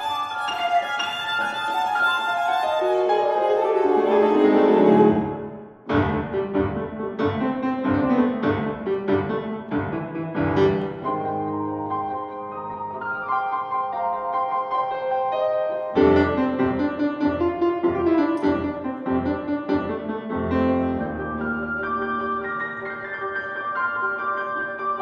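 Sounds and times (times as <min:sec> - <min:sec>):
viola and piano chamber music: 0:00.0 - 0:25.0.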